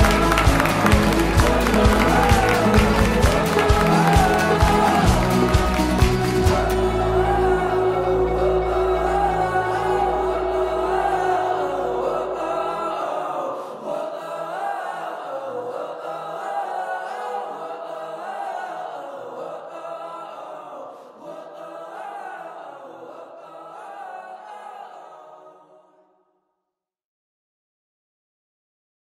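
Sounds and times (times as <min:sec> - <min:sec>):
music with voices singing: 0:00.0 - 0:25.8.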